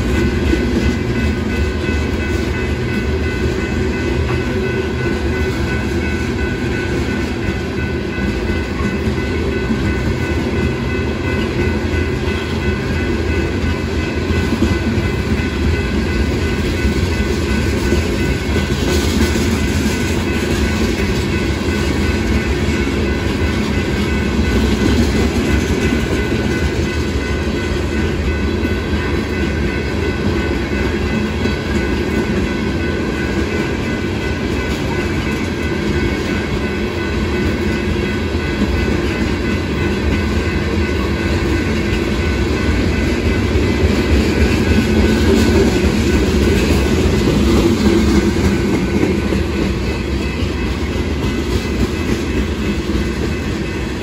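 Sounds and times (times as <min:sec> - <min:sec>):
train clickety-clack: 0:00.0 - 0:54.0
train wheels rumbling on rail: 0:00.0 - 0:54.0.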